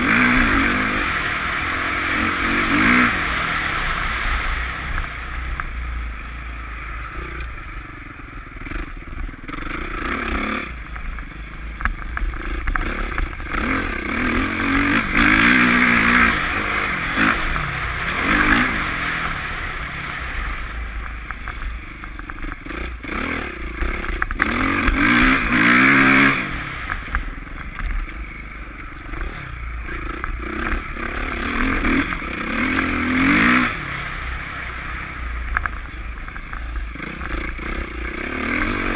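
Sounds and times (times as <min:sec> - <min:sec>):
motocross bike engine accelerating: 0:00.0 - 0:38.9.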